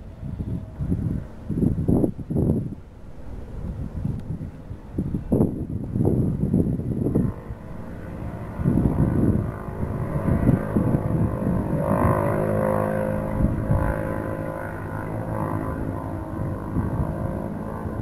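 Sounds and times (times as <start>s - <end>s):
distant jet engines humming: 0.0s - 18.0s
wind buffeting microphone: 0.0s - 18.0s.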